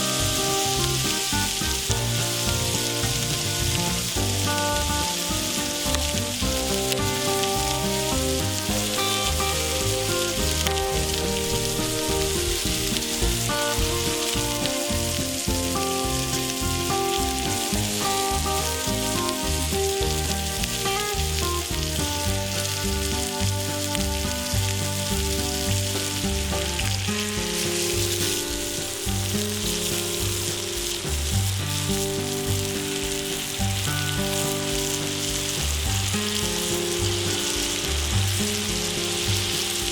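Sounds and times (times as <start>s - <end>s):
background music: 0.0s - 39.9s
steak sizzling in a pan: 0.0s - 39.9s.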